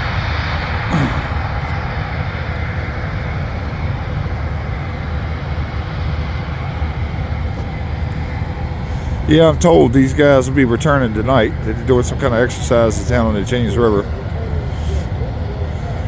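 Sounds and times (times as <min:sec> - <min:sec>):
aircraft engines and rotors running: 0:00.0 - 0:16.0.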